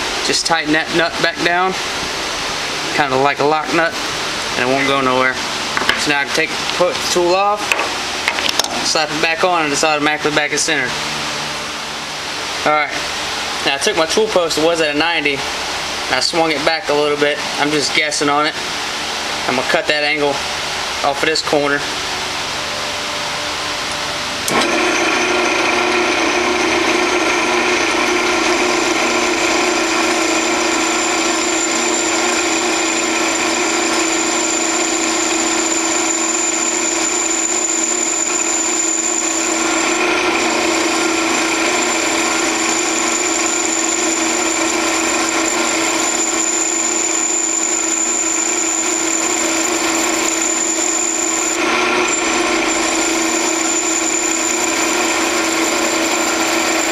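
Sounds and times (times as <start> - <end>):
metal lathe whining: 0.0 - 56.9.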